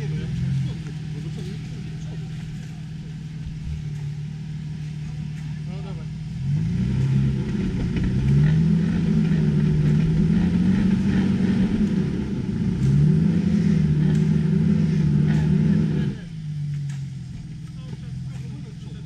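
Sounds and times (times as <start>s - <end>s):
vehicle engine revving hard: 0.0s - 19.0s.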